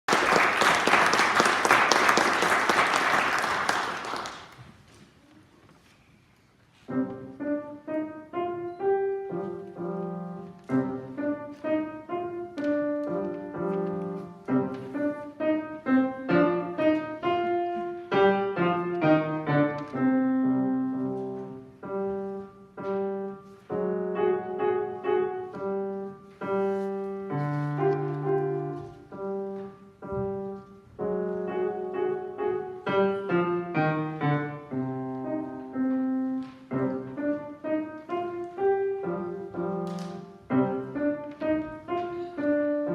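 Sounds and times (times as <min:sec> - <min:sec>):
solo piano piece: 0:06.8 - 0:42.9.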